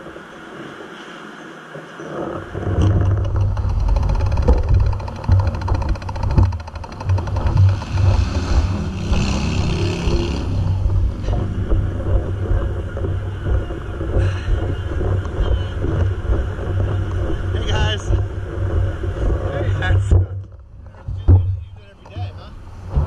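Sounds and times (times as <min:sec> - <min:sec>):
road noise: 0:00.0 - 0:23.0
wind buffeting microphone: 0:00.0 - 0:23.0.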